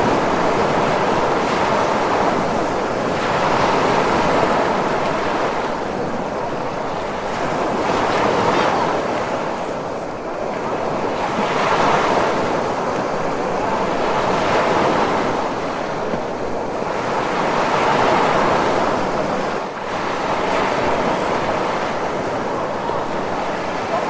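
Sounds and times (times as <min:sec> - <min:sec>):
ocean surf breaking waves: 0:00.0 - 0:24.0.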